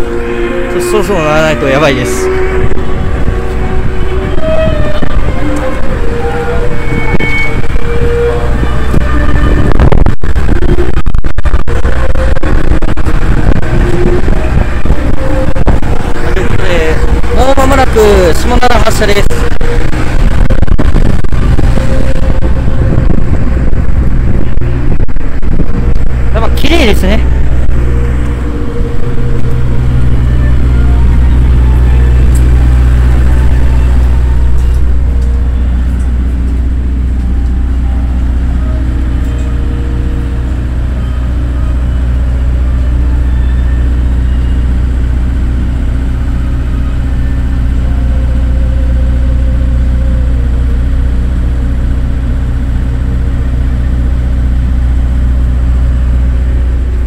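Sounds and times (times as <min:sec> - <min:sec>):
diesel railcar engine idling: 0:00.0 - 0:57.0.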